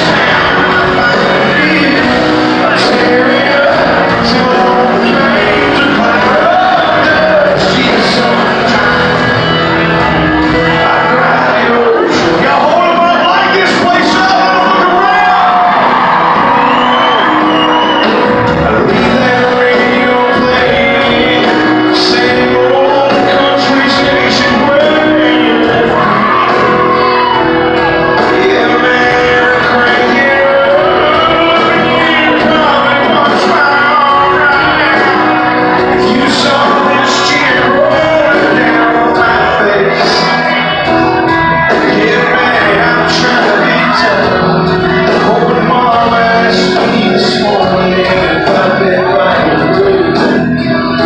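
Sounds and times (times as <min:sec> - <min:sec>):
crowd shouting: 0:00.0 - 0:51.0
live country band: 0:00.0 - 0:51.0
person singing: 0:00.0 - 0:51.0.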